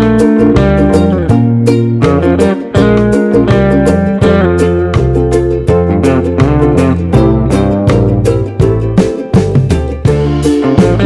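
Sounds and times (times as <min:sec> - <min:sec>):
music with plucked notes: 0:00.0 - 0:11.0.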